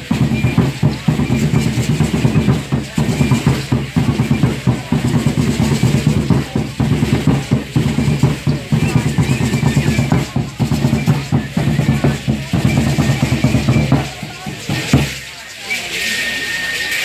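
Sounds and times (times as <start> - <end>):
wooden drums beaten with sticks: 0.0 - 15.6.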